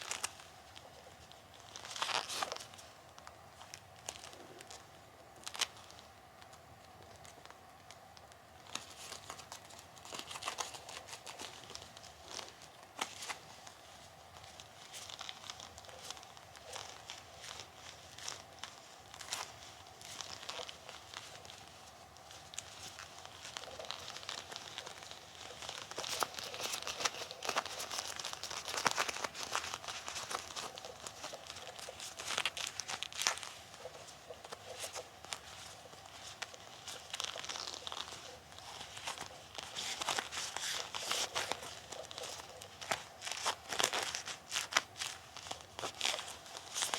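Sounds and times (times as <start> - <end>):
faint steady hum: 0.0 - 46.9
rubber gloves crackling and rubbing: 0.0 - 46.9.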